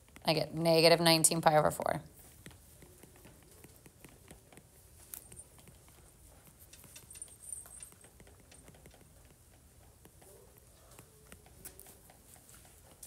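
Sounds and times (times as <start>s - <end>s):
writing taps on touchscreen: 2.2s - 13.0s.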